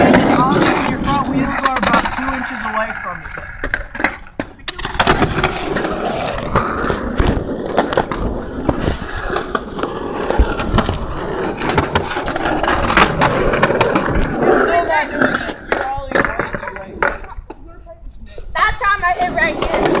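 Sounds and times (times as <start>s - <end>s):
skateboard wheels grinding: 0.0s - 17.6s, 18.5s - 20.0s
skateboard clicks and knocks: 0.0s - 18.0s, 18.6s - 20.0s.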